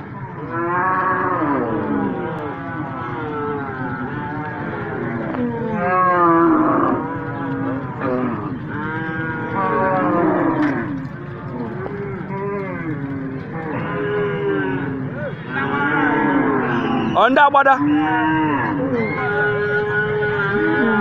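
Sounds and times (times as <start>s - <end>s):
cattle mooing: 0.0s - 21.0s.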